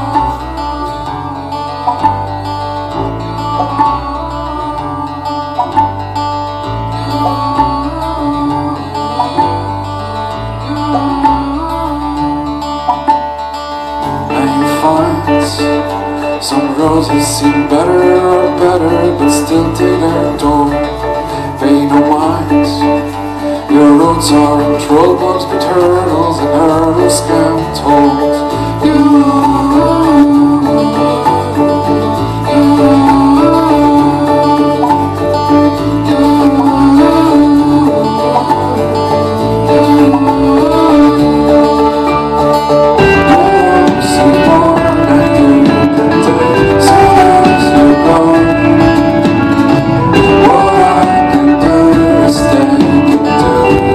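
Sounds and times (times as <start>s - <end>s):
live band playing instrumental: 0.0s - 53.9s
sliding lead melody: 0.0s - 53.9s.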